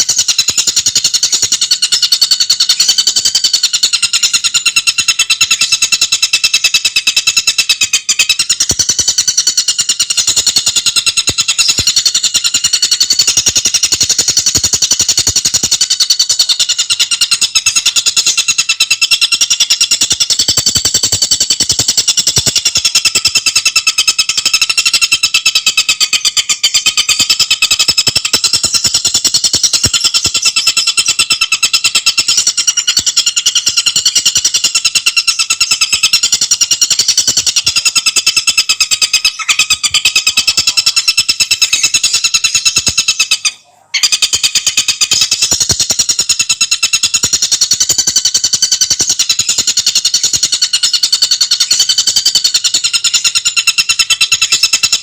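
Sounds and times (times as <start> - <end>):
bird singing fast chattering song: 0.0 - 55.0.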